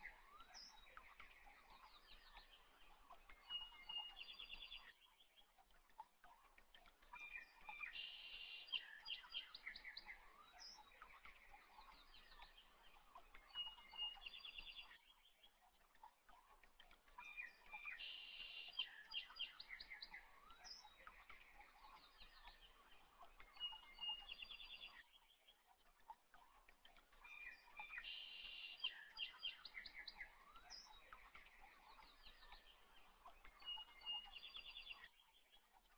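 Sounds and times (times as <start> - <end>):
faint birdsong chirps and trills: 0.0 - 35.9.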